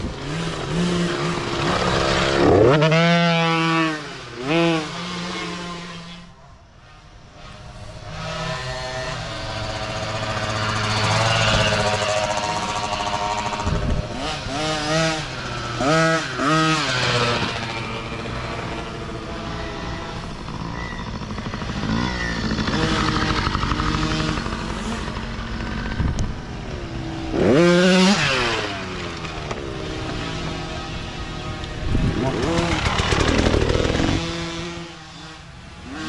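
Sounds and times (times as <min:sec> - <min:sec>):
dirt bike engines revving: 0:00.0 - 0:36.0
dirt bike passing close: 0:00.0 - 0:36.0.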